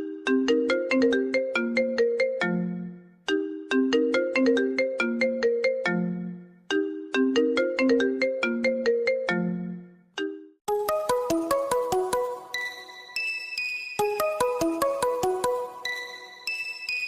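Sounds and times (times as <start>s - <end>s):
phone ringtone bell melody: 0.0s - 17.0s.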